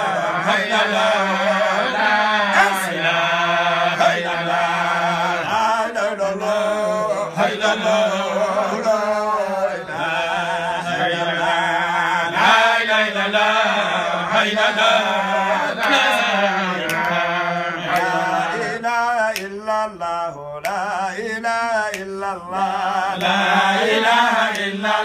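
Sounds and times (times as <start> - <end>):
lead voice singing ornamented melody: 0.0 - 12.8, 13.4 - 25.0.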